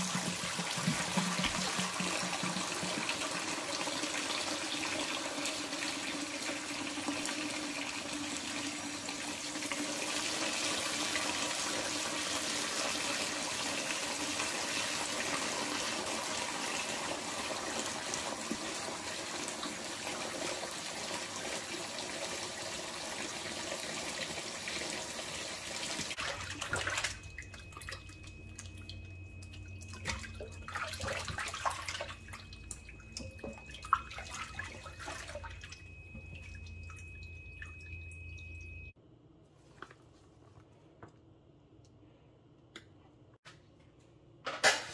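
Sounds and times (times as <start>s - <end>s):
faucet running into steel sink: 0.0s - 38.7s.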